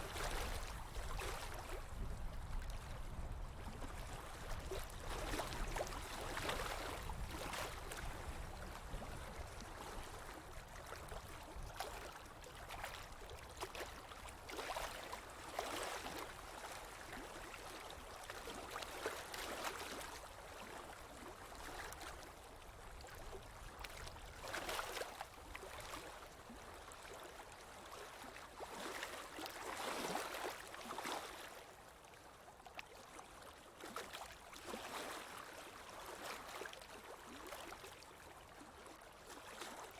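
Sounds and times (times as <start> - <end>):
stream water splashing and gurgling: 0.0 - 39.9.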